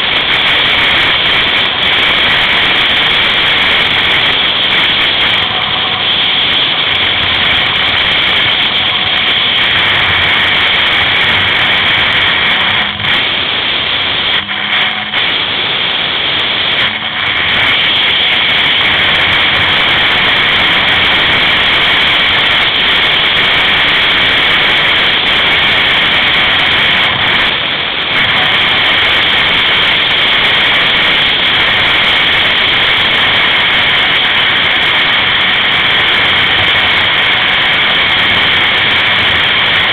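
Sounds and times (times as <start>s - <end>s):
rushing air: 0.0s - 39.9s
snowmobile engine roaring: 0.0s - 39.9s.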